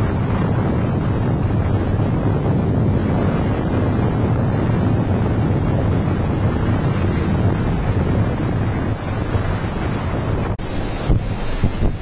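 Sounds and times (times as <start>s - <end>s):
strong wind buffeting microphone: 0.0s - 12.0s
surf breaking on seawall: 0.0s - 12.0s.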